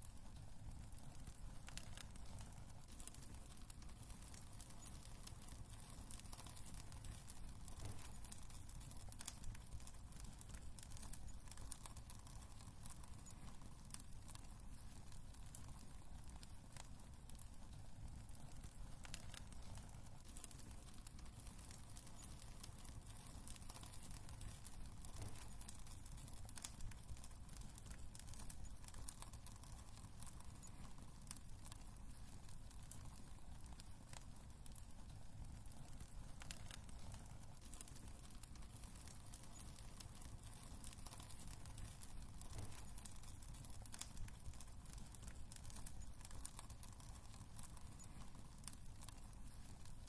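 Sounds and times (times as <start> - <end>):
low rumble of flames: 0.0 - 50.0
wood fire pops and snaps: 0.1 - 50.0.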